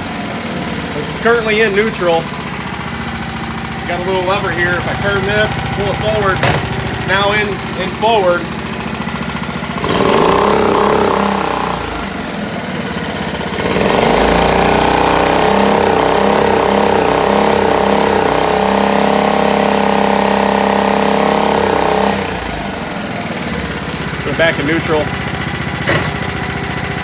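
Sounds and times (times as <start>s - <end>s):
outboard motor revving: 0.0s - 27.0s.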